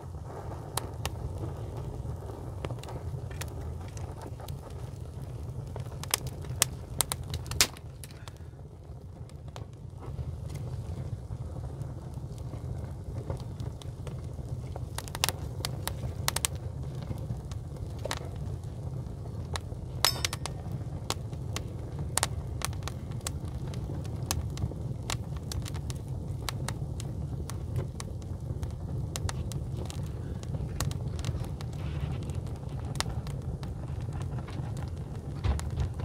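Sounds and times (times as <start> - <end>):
fire crackling: 0.0 - 36.0
sharp pops of fire: 0.0 - 36.0
steady low rumble: 0.0 - 36.0.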